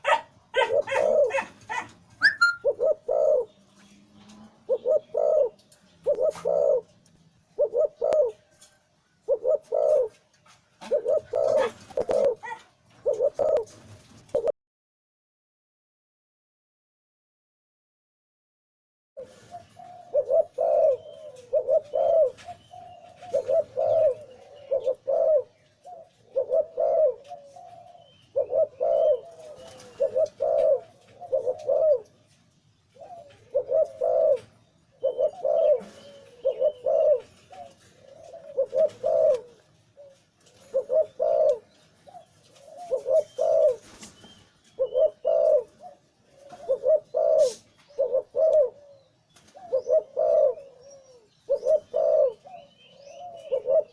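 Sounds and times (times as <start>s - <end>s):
dove cooing: 0.0s - 14.5s, 19.2s - 32.3s, 32.9s - 53.9s.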